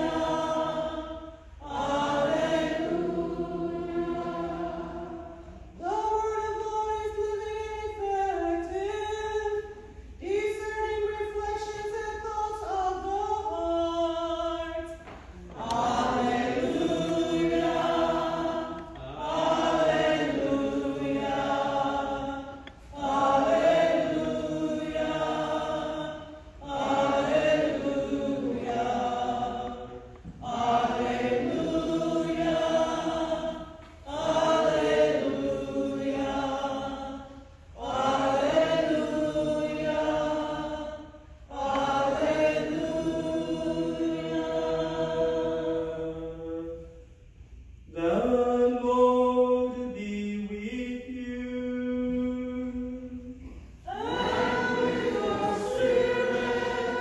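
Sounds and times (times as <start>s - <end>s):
chant-like singing: 0.0s - 46.9s, 47.9s - 57.0s.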